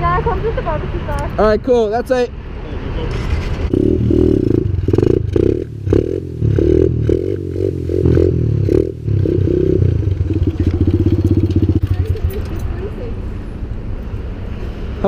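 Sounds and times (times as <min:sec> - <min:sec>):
pit bike engines running: 0:02.1 - 0:15.0.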